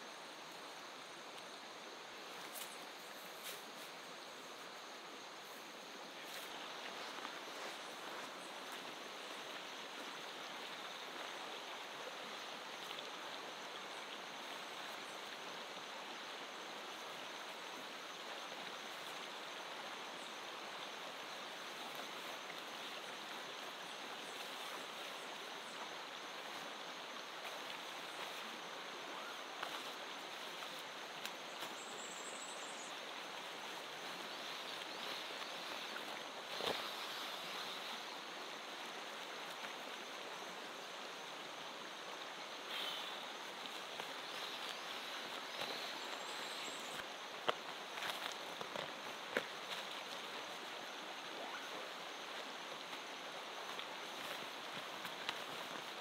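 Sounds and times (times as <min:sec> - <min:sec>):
river rushing over rocks: 0:03.6 - 0:56.0.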